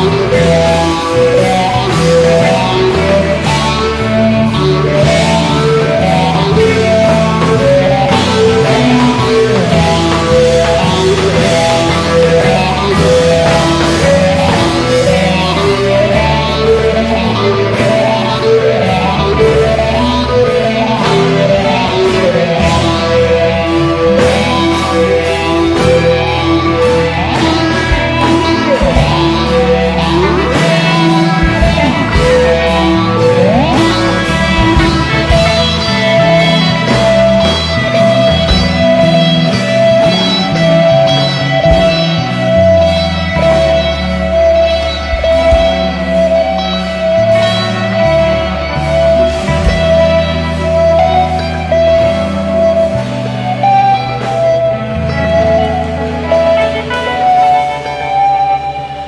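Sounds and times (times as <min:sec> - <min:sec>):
electric guitar slides: 0:00.0 - 0:59.0
rock band playing: 0:00.0 - 0:59.0.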